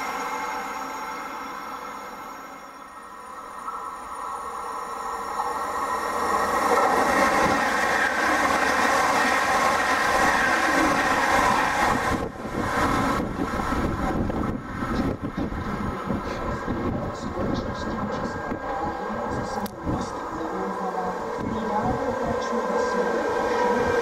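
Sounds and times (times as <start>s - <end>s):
electric train whine: 0.0s - 24.0s
wheels rushing on rail: 0.0s - 24.0s.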